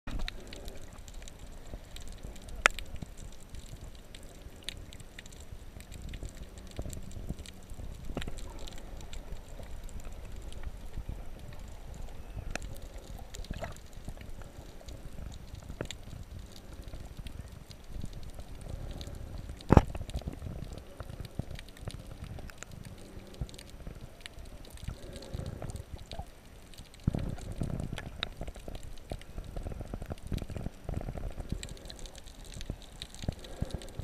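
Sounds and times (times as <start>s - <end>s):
sharp underwater clicks: 0.1s - 34.0s
underwater rumble of moving water: 0.1s - 34.0s.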